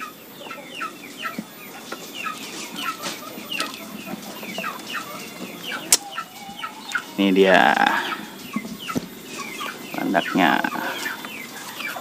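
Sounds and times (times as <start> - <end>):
birds chirping downward calls: 0.0 - 12.0.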